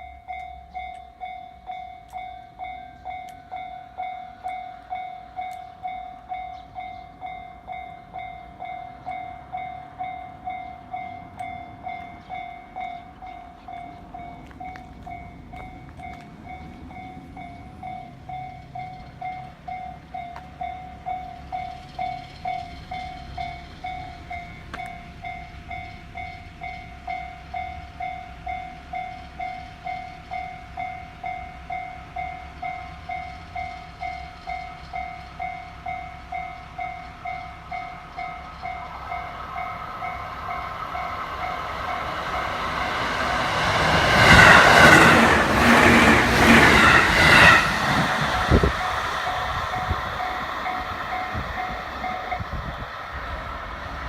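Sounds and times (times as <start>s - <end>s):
electric train approaching: 0.0s - 54.0s.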